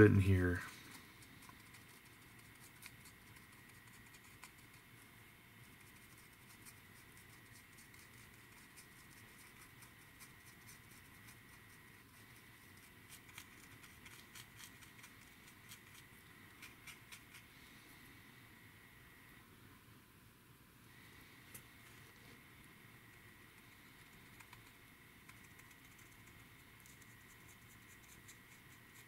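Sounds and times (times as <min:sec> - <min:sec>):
paintbrush dabbing ticks: 0:00.0 - 0:17.5, 0:23.1 - 0:29.0.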